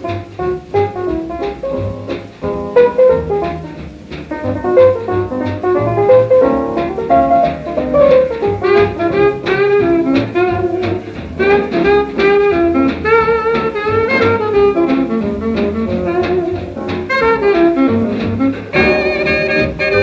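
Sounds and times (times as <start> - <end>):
swing jazz record: 0.0 - 20.0.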